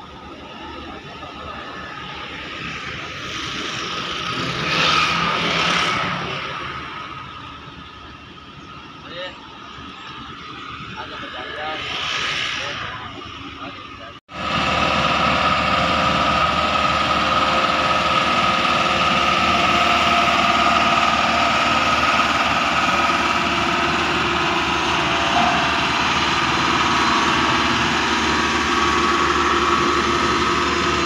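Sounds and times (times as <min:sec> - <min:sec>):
heavy machine engine droning: 0:00.0 - 0:31.0.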